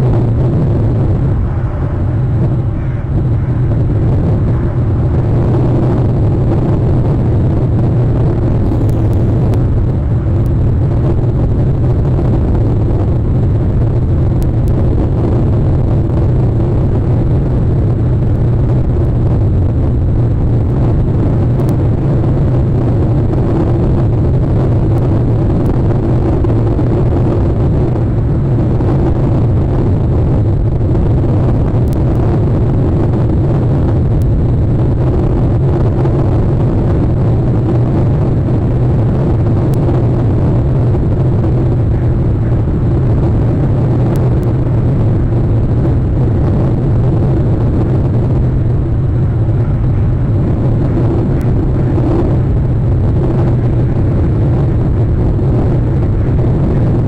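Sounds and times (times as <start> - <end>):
loud low rumbling: 0.0 - 57.0.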